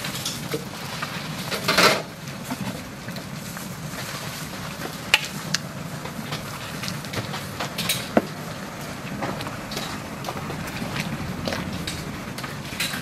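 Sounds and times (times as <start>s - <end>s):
background noise: 0.0s - 13.0s.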